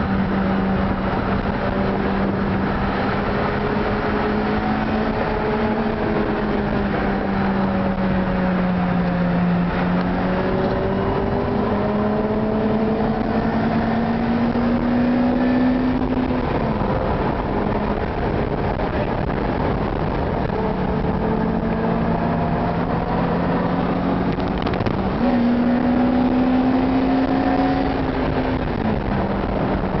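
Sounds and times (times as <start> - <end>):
car engine cruising: 0.0 - 30.0
road and wind noise: 0.0 - 30.0.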